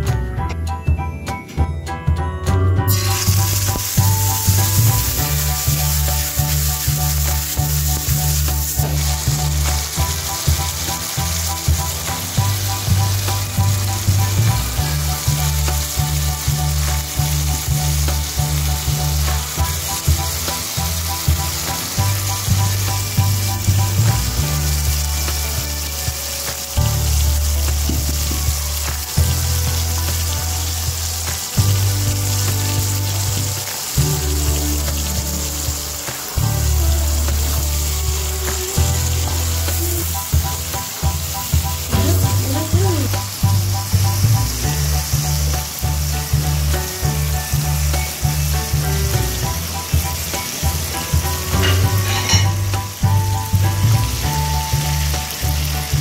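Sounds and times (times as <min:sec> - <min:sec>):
stirring in a frying pan: 0:02.9 - 0:56.0
tomato sizzling in hot oil: 0:02.9 - 0:56.0.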